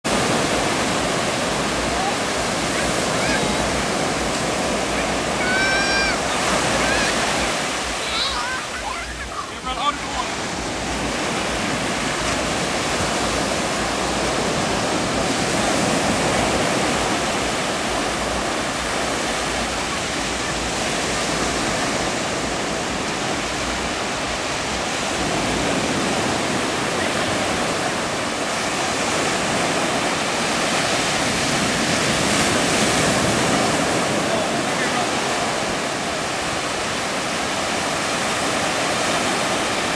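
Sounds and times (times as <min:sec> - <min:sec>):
ocean surf breaking on shore: 0:00.0 - 0:39.9.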